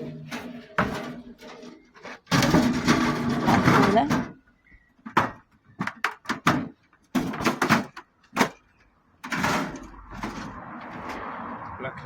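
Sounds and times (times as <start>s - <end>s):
sharp knocks and clatters: 0.0s - 4.4s, 5.0s - 11.0s.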